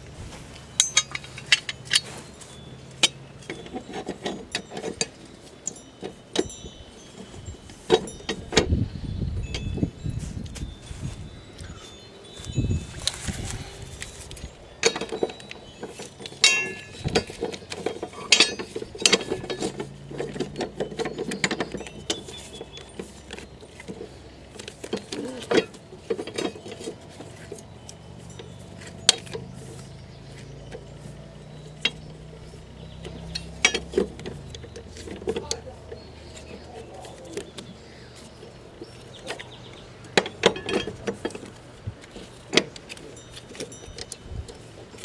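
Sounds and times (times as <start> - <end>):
metal tool clinks and knocks: 0.6 - 10.9, 11.5 - 29.6, 30.4 - 37.8, 38.8 - 45.0.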